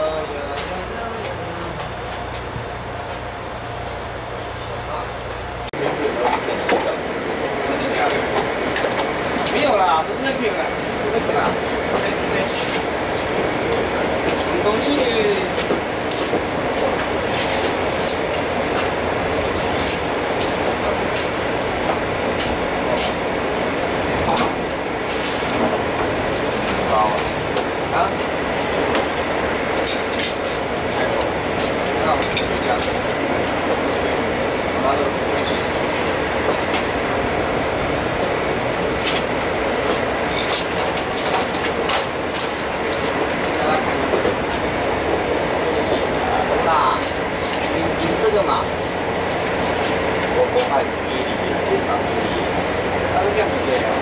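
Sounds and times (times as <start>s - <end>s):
loud workshop noise: 0.0s - 54.0s
machinery rumbling: 0.0s - 54.0s.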